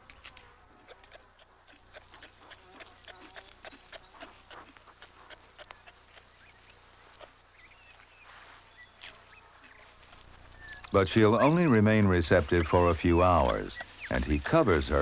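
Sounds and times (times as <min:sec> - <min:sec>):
high bird calls: 0:00.0 - 0:15.0.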